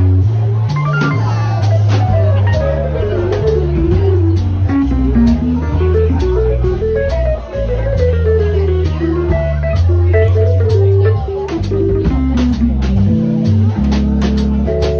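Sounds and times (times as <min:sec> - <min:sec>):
drum kit cymbals: 0:00.0 - 0:14.9
low bass notes: 0:00.0 - 0:14.9.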